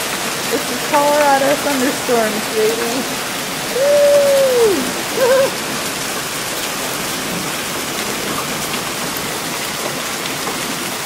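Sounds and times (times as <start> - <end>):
hail ticking: 0.0 - 11.0
heavy rain pouring: 0.0 - 11.0.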